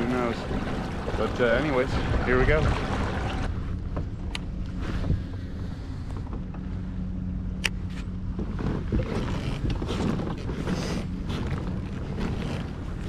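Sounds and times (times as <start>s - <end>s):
low steady hum: 0.0s - 13.0s
water lapping at hull: 0.0s - 13.0s
wind rumbling on microphone: 0.0s - 13.0s.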